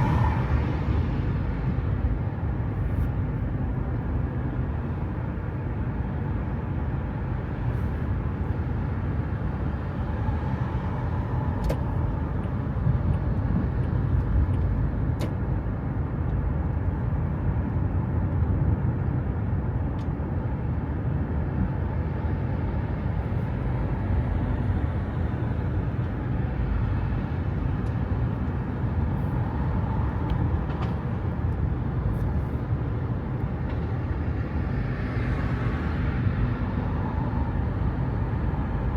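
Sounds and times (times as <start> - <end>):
low rumble of road vehicles: 0.0 - 38.9.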